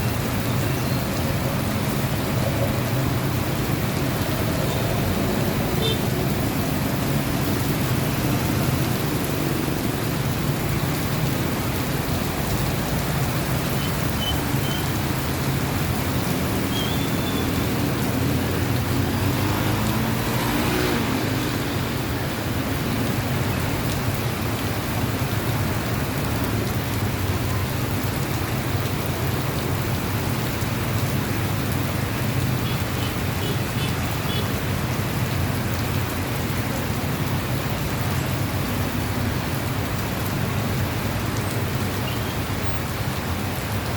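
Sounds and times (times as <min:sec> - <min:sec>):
heavy rain on surfaces: 0:00.0 - 0:43.9.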